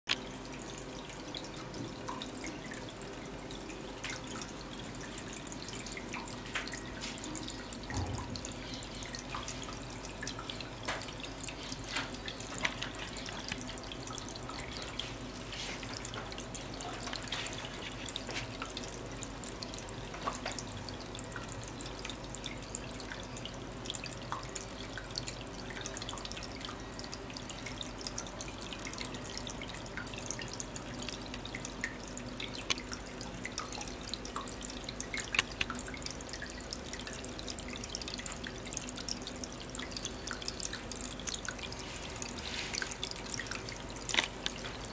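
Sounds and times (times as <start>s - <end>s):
faint steady hum: 0.1s - 44.9s
water dripping and splashing: 0.1s - 44.9s
water trickling down rock: 0.1s - 44.9s.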